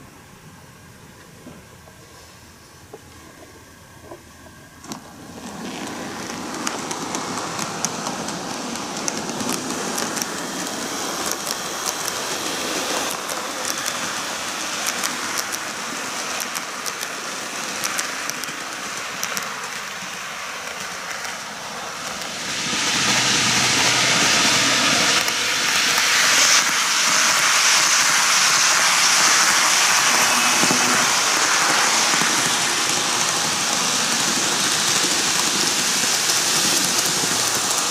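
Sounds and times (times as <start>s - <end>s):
model trains rattling on track: 2.9s - 37.9s.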